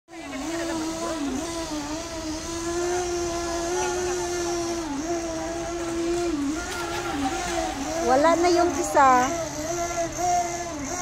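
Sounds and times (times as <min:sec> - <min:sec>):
fainter high whine: 0:00.1 - 0:11.0
toy boat electric motor whining: 0:00.1 - 0:11.0.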